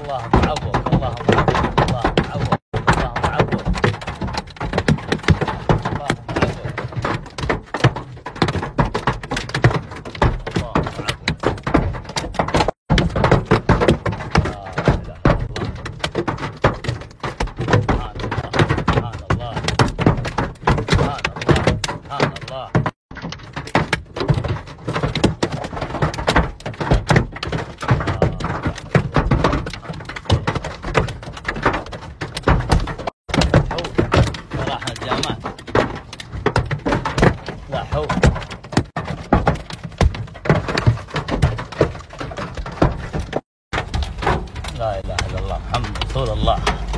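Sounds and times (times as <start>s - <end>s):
hail clattering on car roof: 0.0s - 46.9s.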